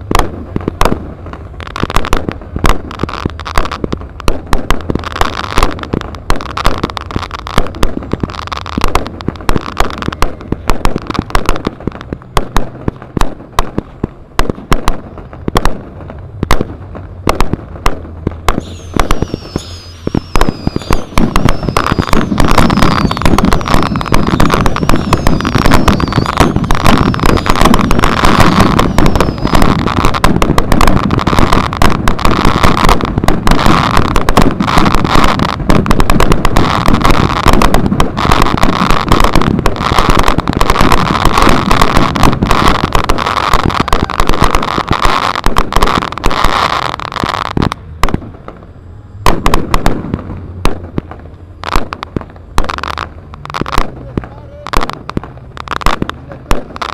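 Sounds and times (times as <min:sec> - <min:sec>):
fireworks crackling and banging: 0:00.0 - 0:56.9.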